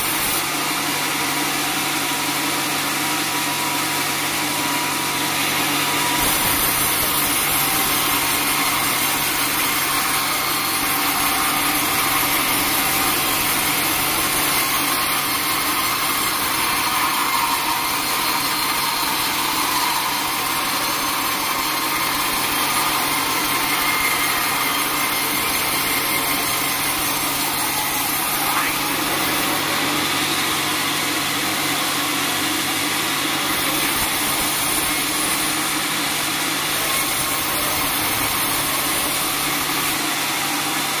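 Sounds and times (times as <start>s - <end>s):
band saw cutting a log: 0.0s - 41.0s.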